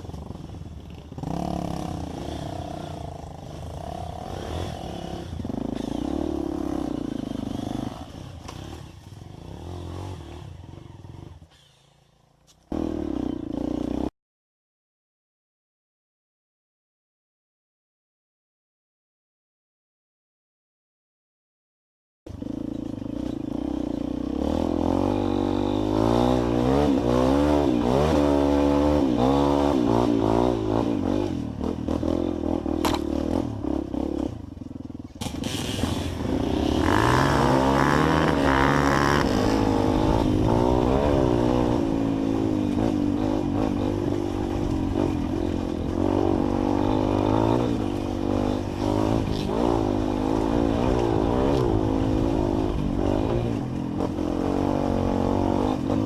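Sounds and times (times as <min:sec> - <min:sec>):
motorcycle engine revving: 0:00.0 - 0:14.1, 0:22.3 - 0:56.0.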